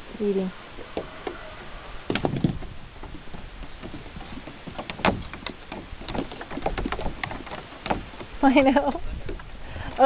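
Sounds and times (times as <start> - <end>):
goats knocking and thumping: 0.8 - 10.0.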